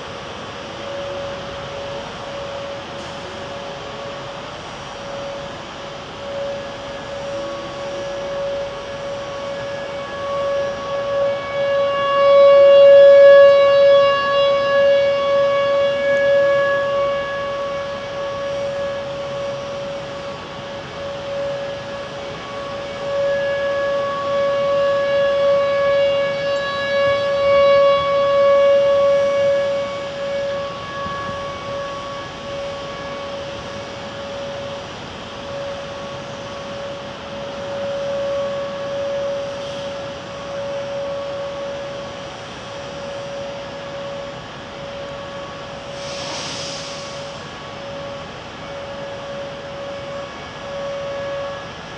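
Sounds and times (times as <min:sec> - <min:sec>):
warning siren steady tone: 0:00.0 - 0:51.9.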